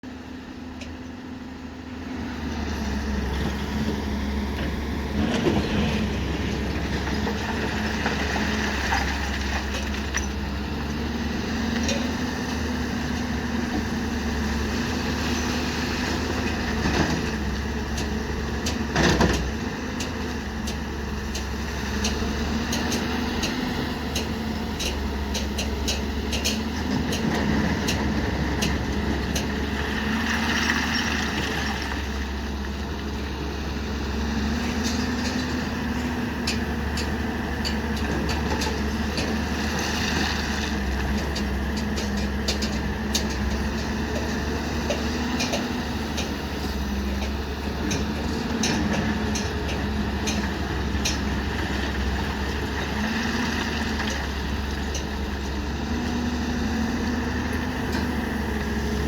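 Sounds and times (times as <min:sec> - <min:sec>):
large engine running: 0:00.1 - 0:59.0.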